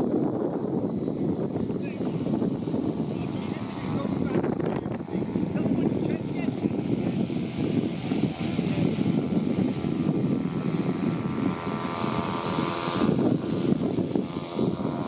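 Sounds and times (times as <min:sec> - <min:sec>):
model plane engine buzzing: 0:00.0 - 0:15.0.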